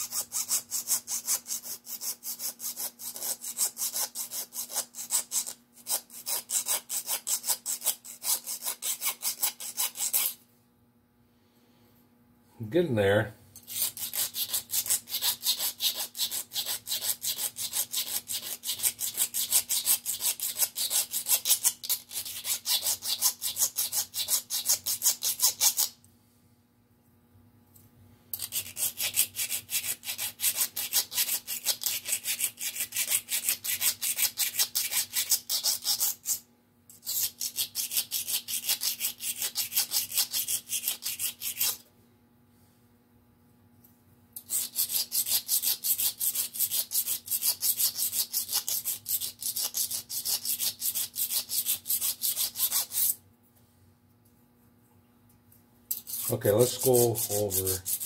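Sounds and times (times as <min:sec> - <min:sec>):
file rasping on metal: 0:00.0 - 0:10.4, 0:13.7 - 0:25.9, 0:28.4 - 0:41.8, 0:44.4 - 0:53.2, 0:55.9 - 0:58.0.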